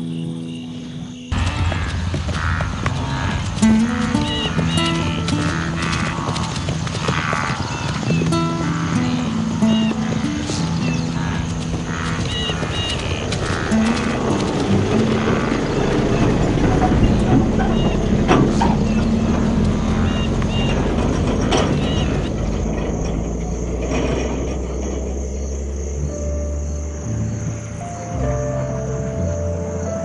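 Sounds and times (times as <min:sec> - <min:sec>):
heavy truck driving on dirt road: 0:00.0 - 0:30.0
low engine hum: 0:00.3 - 0:30.0.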